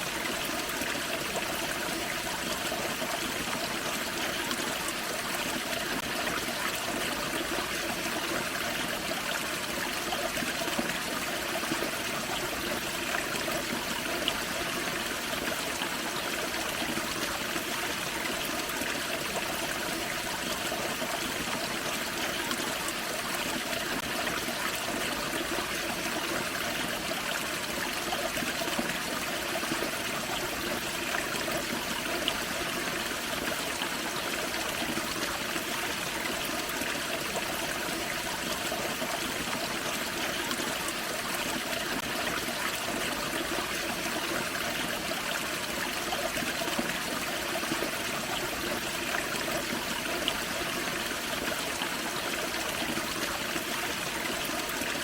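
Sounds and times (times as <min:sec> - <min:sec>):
small waterfall splashing over rocks: 0:00.0 - 0:55.0.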